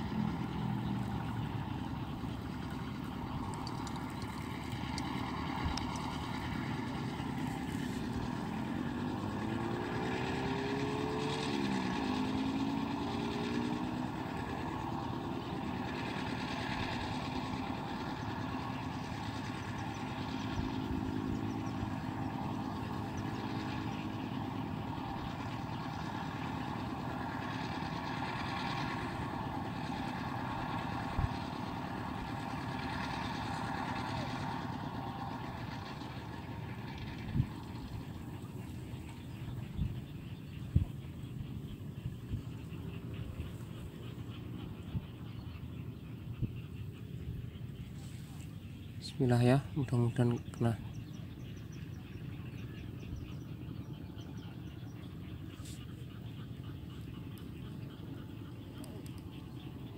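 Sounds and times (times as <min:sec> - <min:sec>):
motor engine running: 0:00.0 - 0:59.9.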